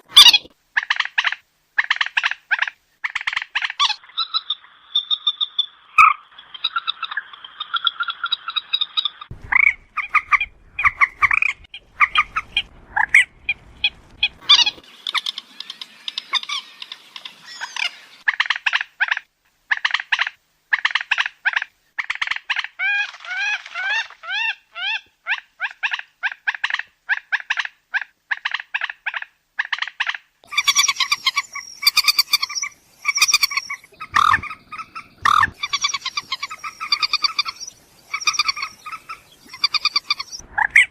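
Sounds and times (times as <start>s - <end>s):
moorhen calling: 0.1s - 40.9s.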